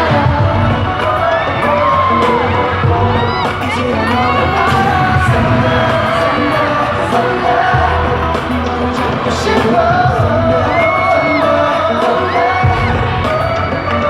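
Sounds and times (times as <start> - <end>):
crowd whooping and yelling: 0.0 - 14.0
live pop music with singing: 0.0 - 14.0.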